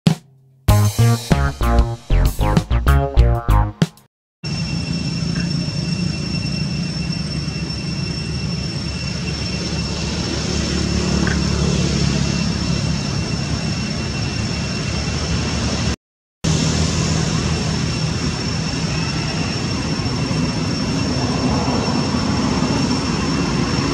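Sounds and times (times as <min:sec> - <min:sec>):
high-pitched whine: 0:04.4 - 0:23.9.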